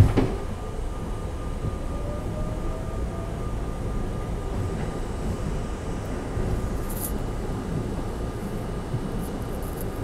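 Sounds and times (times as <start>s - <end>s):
subway car rumbling on rails: 0.0s - 10.0s.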